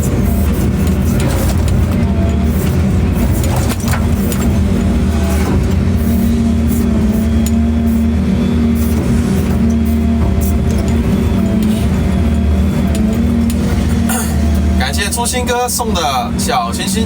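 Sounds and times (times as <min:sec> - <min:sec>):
large engine running: 0:00.0 - 0:17.0.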